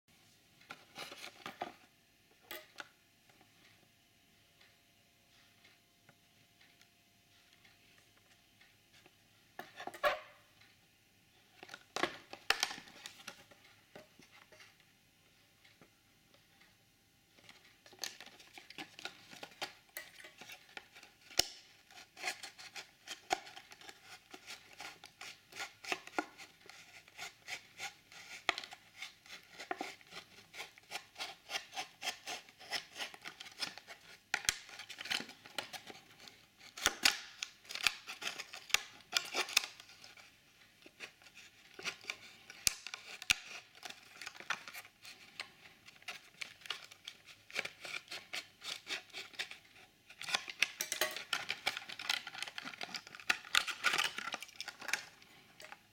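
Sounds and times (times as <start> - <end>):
plastic blister crinkling and clicking: 6.6 - 14.8, 17.3 - 55.9.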